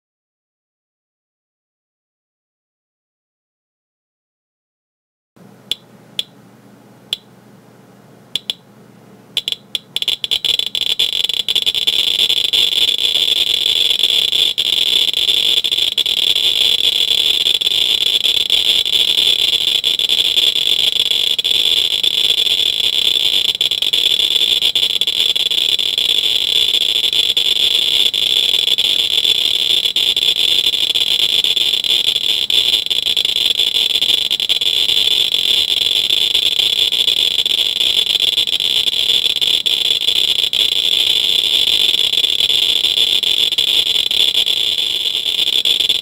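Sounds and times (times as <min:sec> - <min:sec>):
geiger counter clicking: 0:05.7 - 0:06.4, 0:08.4 - 0:08.6, 0:09.4 - 0:46.0.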